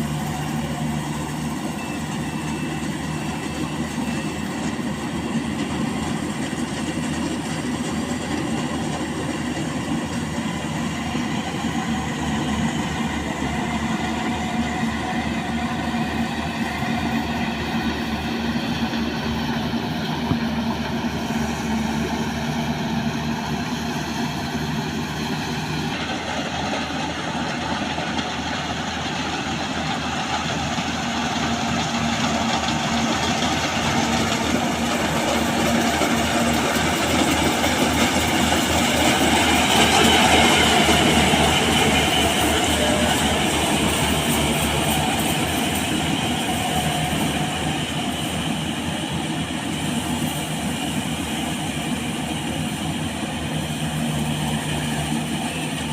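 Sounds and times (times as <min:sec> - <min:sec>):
combine harvester running: 0:00.0 - 0:55.9.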